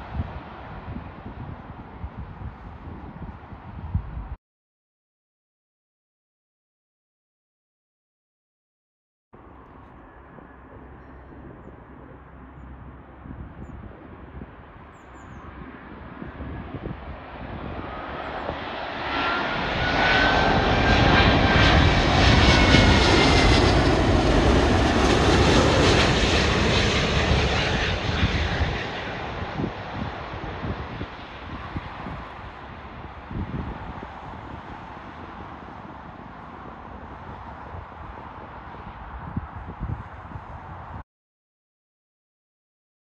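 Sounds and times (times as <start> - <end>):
jet engine whine: 0.0 - 3.8, 9.4 - 41.0
jet engines roaring overhead: 0.0 - 3.8, 9.4 - 41.0.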